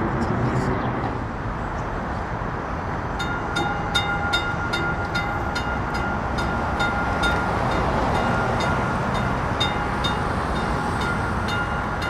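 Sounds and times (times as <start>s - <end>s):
streetcar running rumble: 0.0s - 12.0s.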